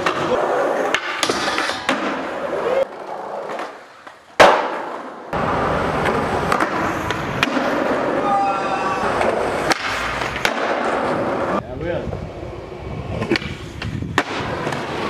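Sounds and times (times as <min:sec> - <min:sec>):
skateboard clacks: 0:00.0 - 0:11.6, 0:13.1 - 0:15.0
skateboard slapping ground: 0:00.0 - 0:11.6, 0:12.2 - 0:15.0
skateboard wheels rolling on concrete: 0:00.0 - 0:15.0.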